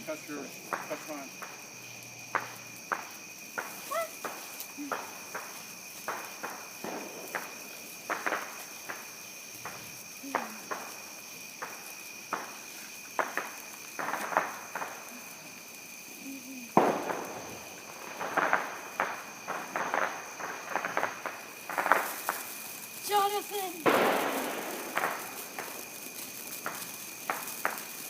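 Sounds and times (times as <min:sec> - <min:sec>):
crickets trilling: 0:00.0 - 0:28.0
fireworks popping and crackling: 0:00.0 - 0:28.0
sharp firework crack: 0:00.0 - 0:28.0.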